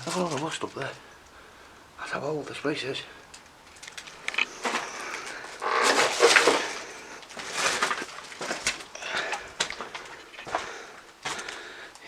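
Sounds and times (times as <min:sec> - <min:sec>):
footsteps crunching on rubble: 0:00.0 - 0:12.0.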